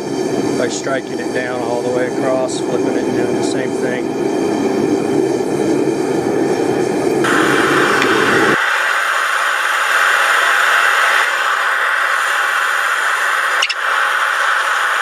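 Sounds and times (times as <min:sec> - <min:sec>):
forge burner hissing: 0:00.0 - 0:15.0.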